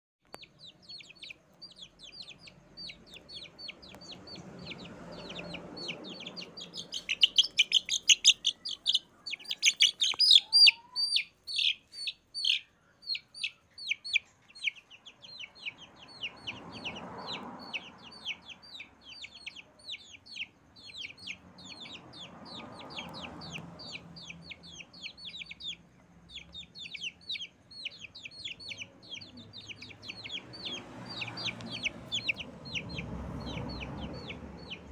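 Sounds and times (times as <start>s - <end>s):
baby chicks peeping: 0.2s - 34.9s.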